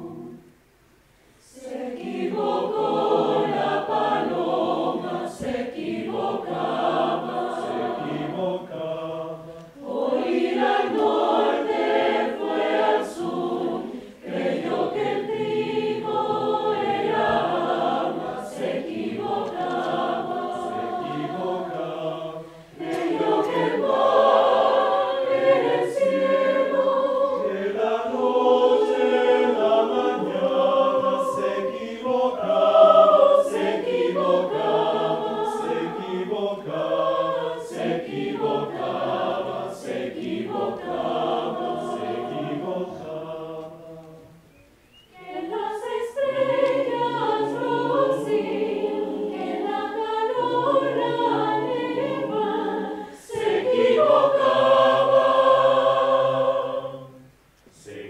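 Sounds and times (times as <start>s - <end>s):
mixed choir singing: 0.0s - 0.5s, 1.4s - 44.5s, 45.1s - 58.0s.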